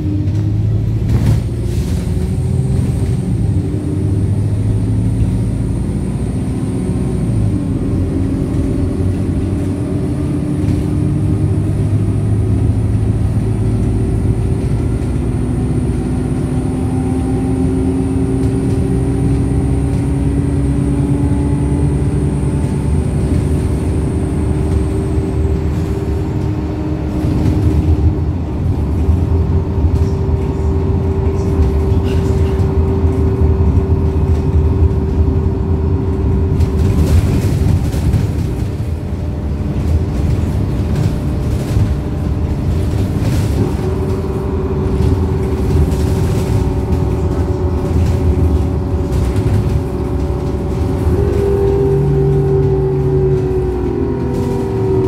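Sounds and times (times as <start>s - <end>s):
bus drivetrain and road rumble: 0.0s - 55.0s.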